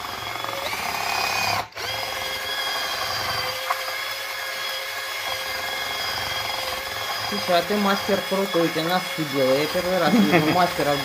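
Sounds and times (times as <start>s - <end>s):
electric drill mixing putty: 0.0s - 11.0s.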